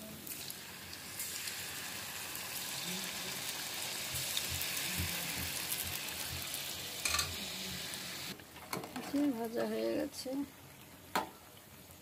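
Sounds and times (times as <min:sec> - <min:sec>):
dough deep-frying in hot oil: 0:00.0 - 0:12.0.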